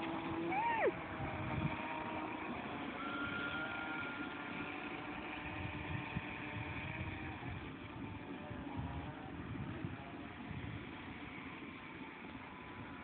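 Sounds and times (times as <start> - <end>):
model boat motor whining: 0.0 - 13.0.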